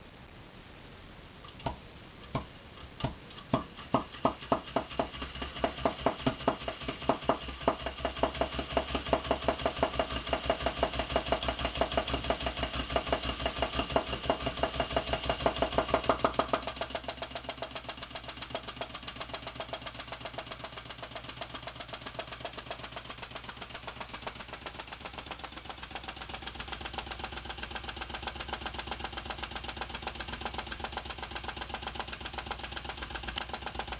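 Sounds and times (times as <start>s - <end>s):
model engine running: 3.0s - 33.9s.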